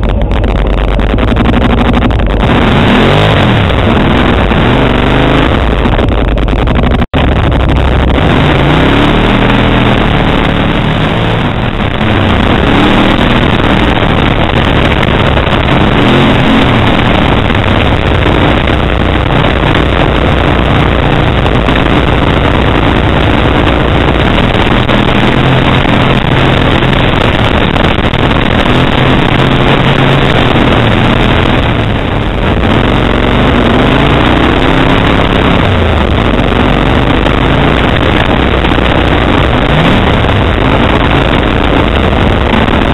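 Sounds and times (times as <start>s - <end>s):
atv engine revving: 0.0s - 42.9s
constant rush of noise: 0.0s - 42.9s.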